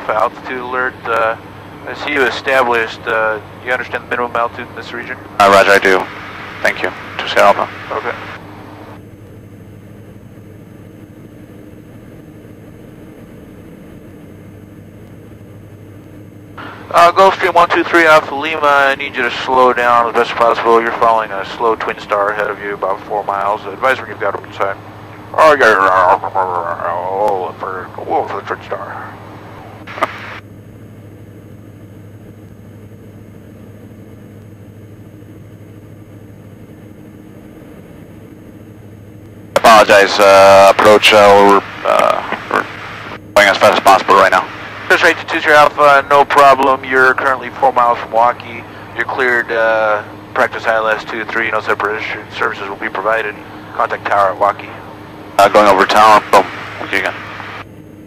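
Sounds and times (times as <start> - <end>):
aircraft engines droning in cockpit: 0.0 - 58.0.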